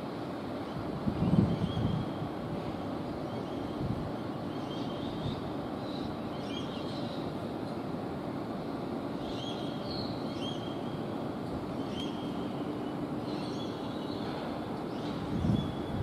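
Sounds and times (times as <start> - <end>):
low rumble of city ambience: 0.0 - 16.0.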